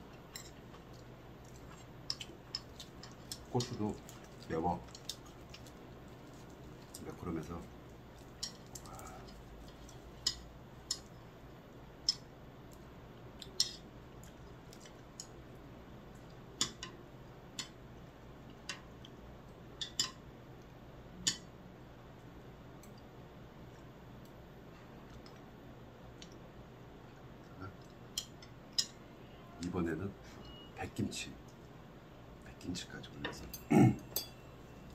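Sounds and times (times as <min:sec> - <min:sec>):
low room hum: 0:00.0 - 0:34.9.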